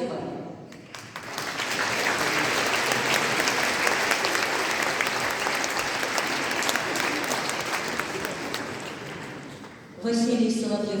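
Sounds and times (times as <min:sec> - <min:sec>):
audience applauding: 0:00.7 - 0:10.0.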